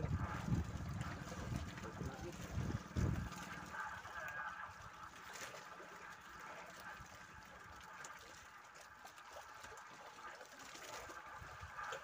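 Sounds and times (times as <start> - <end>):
water lapping against a boat: 0.0 - 12.0.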